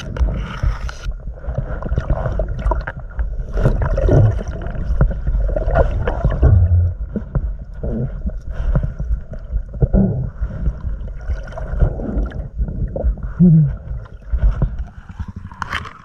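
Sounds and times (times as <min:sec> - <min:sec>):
low rumble: 0:00.0 - 0:16.0
water sloshing and gurgling: 0:00.0 - 0:16.0.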